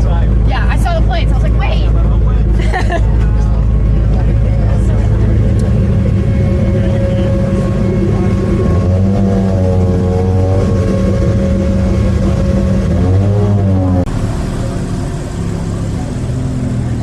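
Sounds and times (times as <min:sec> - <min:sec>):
car engine revving: 0:03.2 - 0:17.0.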